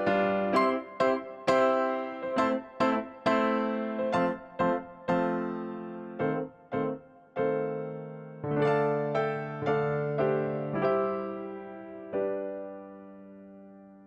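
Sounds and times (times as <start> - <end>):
slow piano-like keyboard melody: 0.0 - 14.0.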